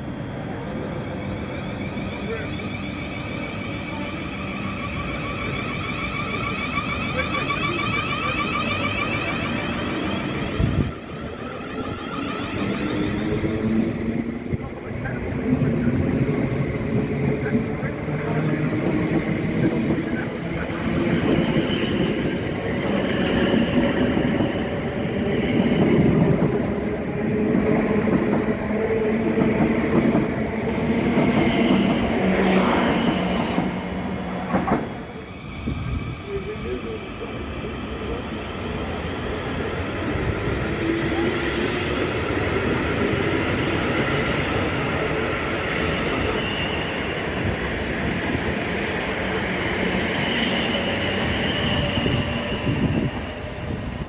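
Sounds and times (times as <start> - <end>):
train whine over rumbling: 0.0 - 54.0.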